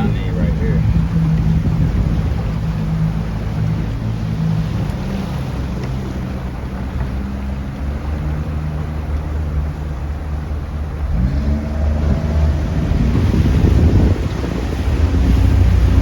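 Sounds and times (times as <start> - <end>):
rushing water and wind: 0.0 - 16.0
speedboat engine revving: 0.0 - 16.0.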